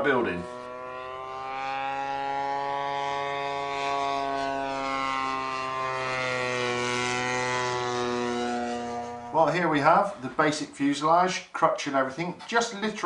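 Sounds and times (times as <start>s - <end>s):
model aircraft engine running: 0.0s - 10.7s.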